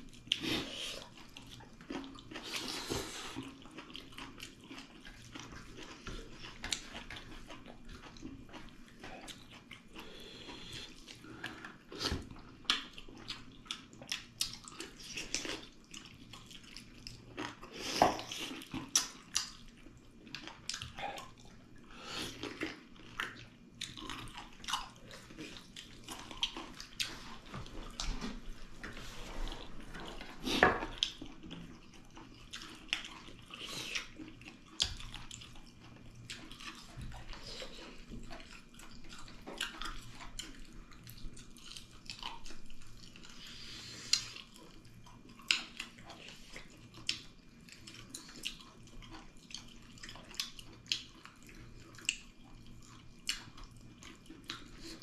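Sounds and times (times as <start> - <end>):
people chewing and lip smacking: 0.0 - 55.0.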